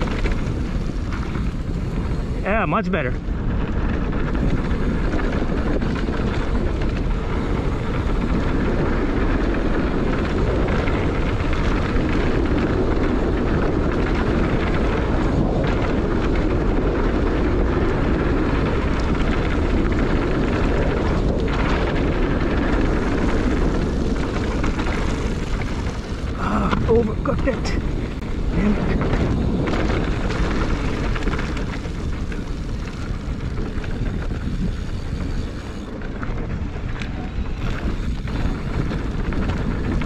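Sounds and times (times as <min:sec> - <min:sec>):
bike tyres rolling over dirt: 0:00.0 - 0:40.0
wind on microphone: 0:00.0 - 0:40.0.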